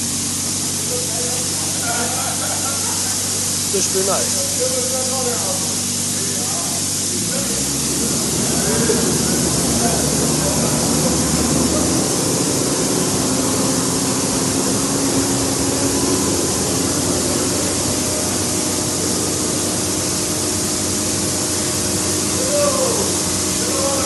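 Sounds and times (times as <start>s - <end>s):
corn pouring hiss: 0.0s - 24.0s
engine humming low: 0.0s - 24.0s.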